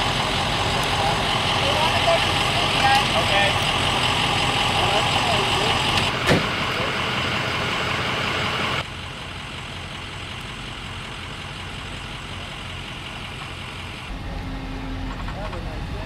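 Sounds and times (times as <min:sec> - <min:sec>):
vehicle engines idling: 0:00.0 - 0:16.0.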